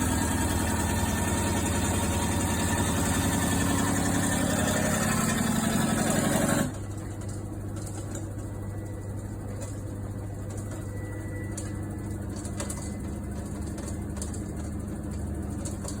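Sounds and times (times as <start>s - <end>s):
washing machine rattling buzz: 0.0s - 16.0s.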